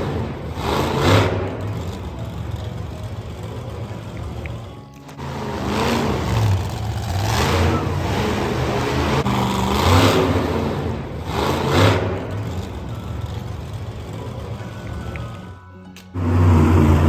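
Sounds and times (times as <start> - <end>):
engine revving: 0.0 - 17.0
low hum: 0.0 - 17.0.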